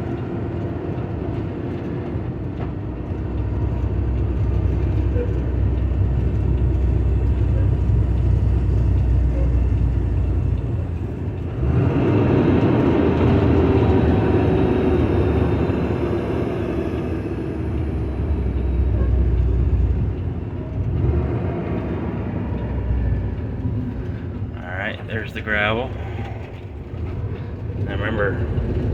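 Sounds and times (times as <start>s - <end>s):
rushing road noise: 0.0s - 28.9s
truck diesel engine rumble: 0.0s - 28.9s.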